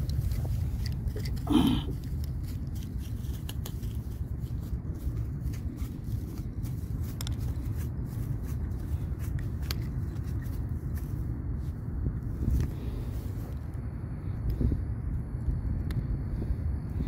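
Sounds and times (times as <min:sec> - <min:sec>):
footsteps crunching through dry grass: 0:00.0 - 0:13.7.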